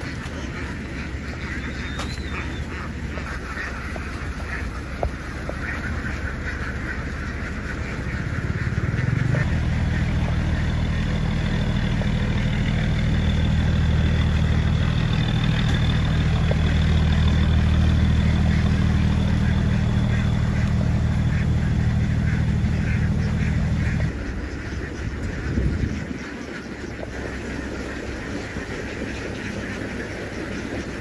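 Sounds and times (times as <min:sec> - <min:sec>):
ducks quacking: 0:00.0 - 0:31.0
engine droning: 0:00.0 - 0:31.0.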